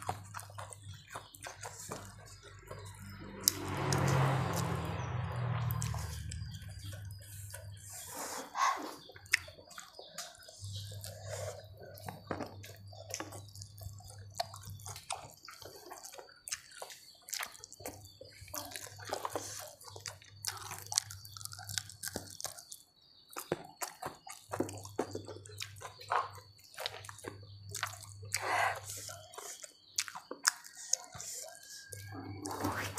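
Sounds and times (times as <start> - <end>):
wet chewing: 0.0 - 32.9.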